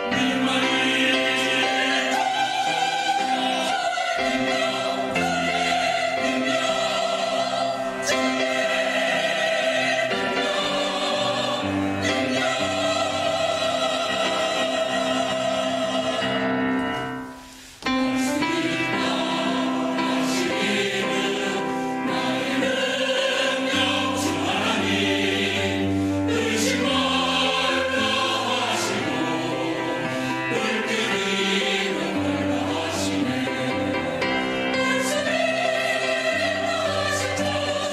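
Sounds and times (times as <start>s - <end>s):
church choir singing sustained chords: 0.0s - 37.9s.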